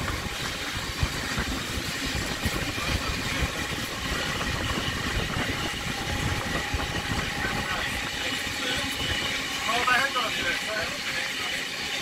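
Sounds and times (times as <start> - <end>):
wind buffeting at window: 0.0 - 9.6
train running noise: 0.0 - 12.0.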